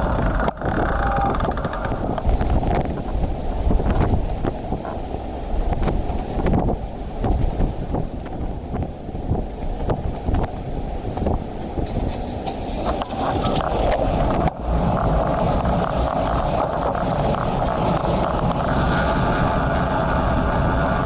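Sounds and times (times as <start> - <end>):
road and traffic noise: 0.0 - 21.0
wind buffeting microphone: 0.0 - 21.0.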